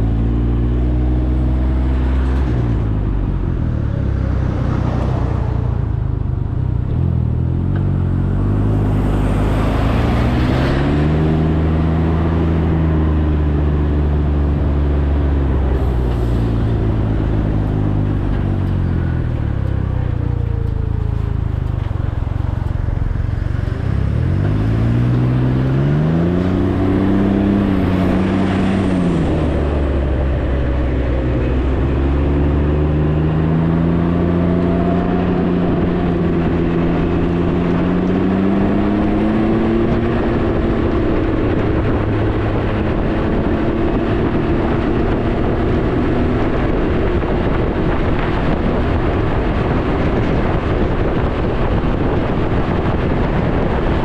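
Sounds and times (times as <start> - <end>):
engine accelerating and slowing: 0.0 - 54.0.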